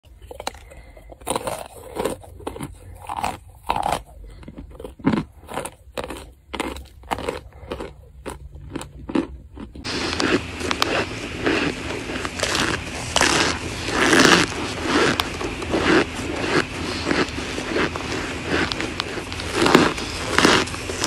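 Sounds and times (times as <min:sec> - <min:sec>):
cornstarch chunks crunching: 0:00.0 - 0:21.0.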